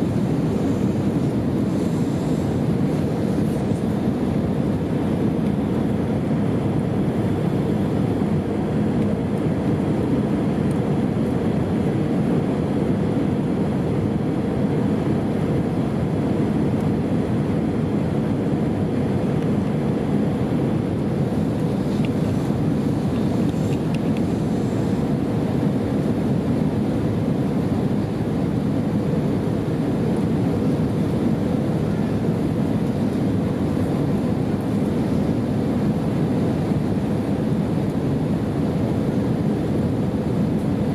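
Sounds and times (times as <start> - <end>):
airliner cabin rumble: 0.0 - 40.9
faint steady hum: 0.0 - 40.9.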